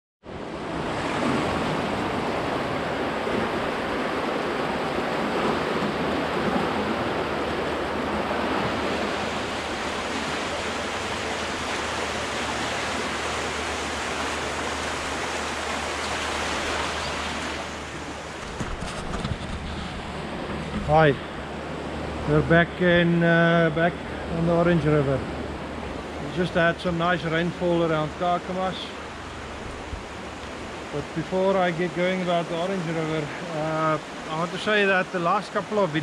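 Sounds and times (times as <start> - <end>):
river water rushing: 0.3 - 36.0.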